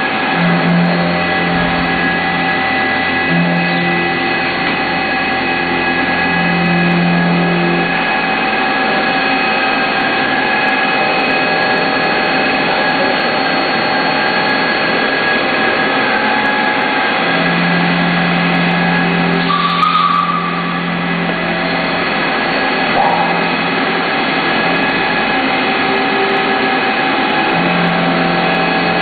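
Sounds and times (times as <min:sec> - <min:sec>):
low machine hum: 0:00.0 - 0:29.0
milling spindle whine: 0:00.0 - 0:29.0.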